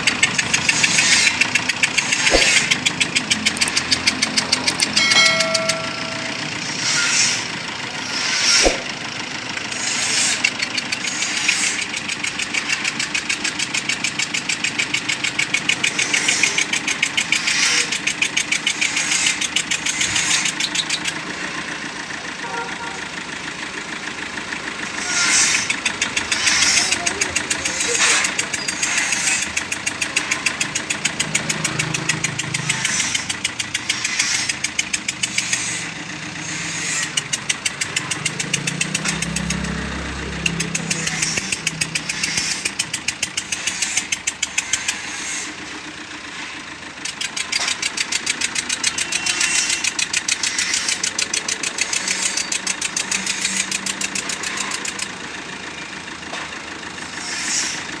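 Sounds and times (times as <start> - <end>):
car engine knocking at idle: 0.0 - 58.0.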